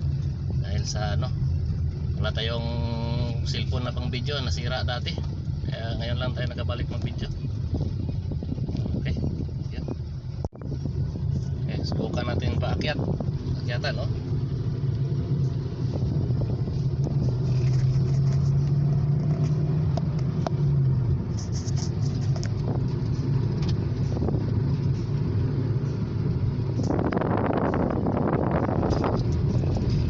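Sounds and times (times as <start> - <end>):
car engine running: 0.0 - 30.0
road noise: 0.0 - 30.0.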